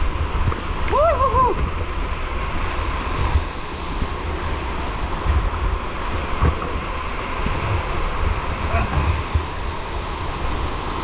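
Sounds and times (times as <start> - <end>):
white water rushing: 0.0 - 11.0
wind buffeting microphone: 0.0 - 11.0.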